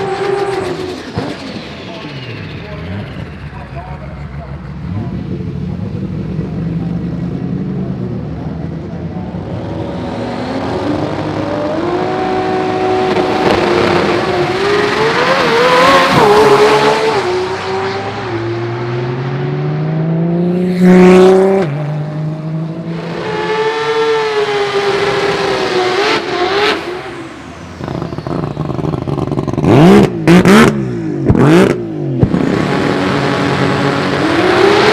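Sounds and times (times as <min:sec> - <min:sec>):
racing car engines accelerating: 0:00.0 - 0:34.9.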